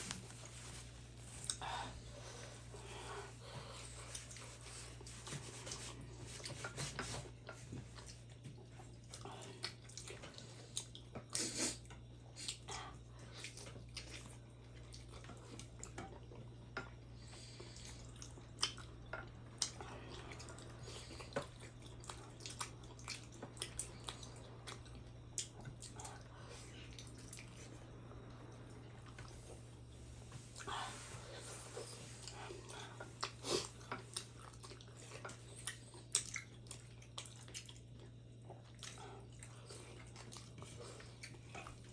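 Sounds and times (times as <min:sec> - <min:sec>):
close-mic chewing sounds: 0:00.0 - 0:41.9
steady low hum: 0:00.0 - 0:41.9.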